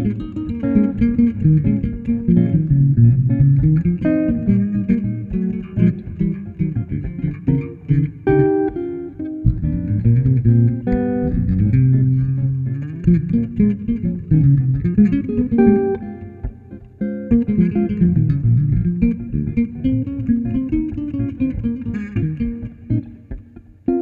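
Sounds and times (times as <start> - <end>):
electric bass playing: 0.0 - 24.0
electric guitar playing: 0.0 - 24.0.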